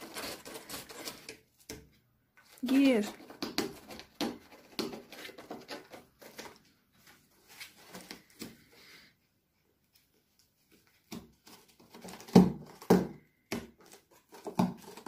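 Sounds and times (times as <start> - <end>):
cat scratching cardboard box: 0.0 - 8.7, 10.8 - 15.0.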